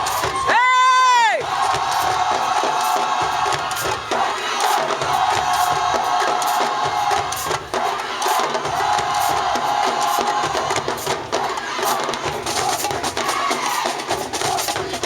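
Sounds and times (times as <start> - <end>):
crowd cheering and shouting: 0.0 - 15.0
drumline playing: 0.0 - 15.0.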